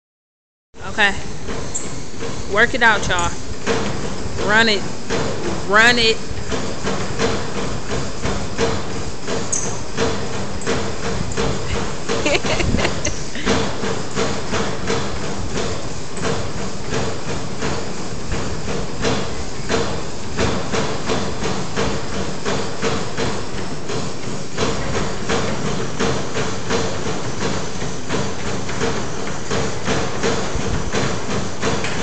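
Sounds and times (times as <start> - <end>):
running footfalls on treadmills: 0.8 - 32.0
steady hum: 0.8 - 32.0.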